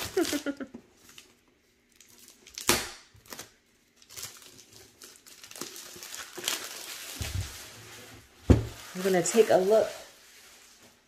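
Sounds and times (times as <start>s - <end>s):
plastic shrink wrap crinkling: 0.0s - 11.0s.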